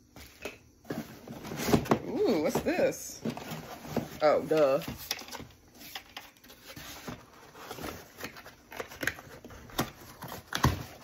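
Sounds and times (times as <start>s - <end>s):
cardboard rustling and scraping: 0.1s - 11.0s.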